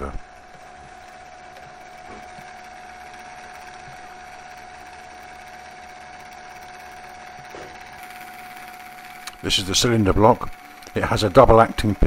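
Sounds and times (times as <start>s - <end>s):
small electric fan humming: 0.0s - 12.0s.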